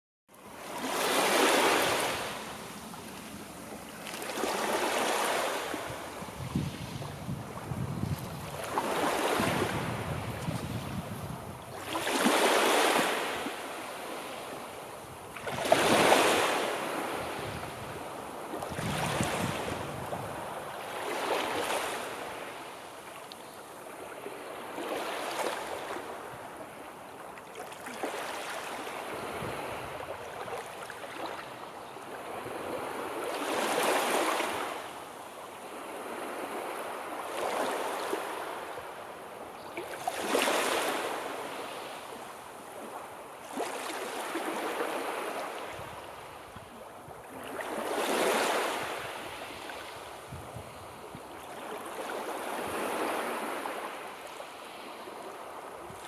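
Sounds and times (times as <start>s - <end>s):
sea waves washing ashore: 0.4s - 56.0s.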